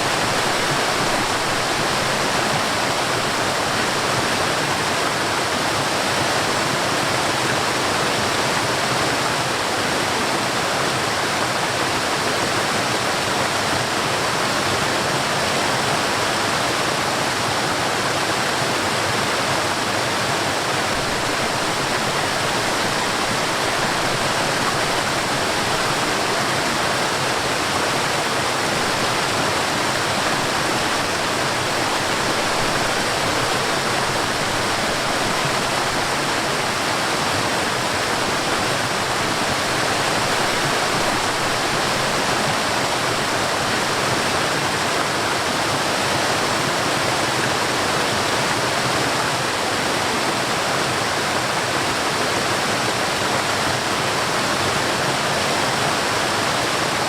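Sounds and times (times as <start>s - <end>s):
waterfall splashing: 0.0s - 57.0s.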